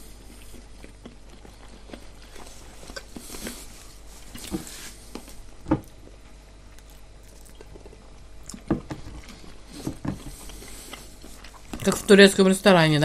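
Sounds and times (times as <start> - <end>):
chewing crunchy flatbread: 0.0 - 12.2.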